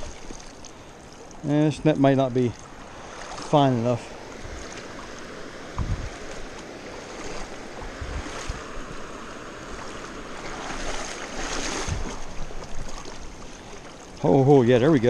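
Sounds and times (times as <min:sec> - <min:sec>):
creek water splashing: 0:00.0 - 0:15.0.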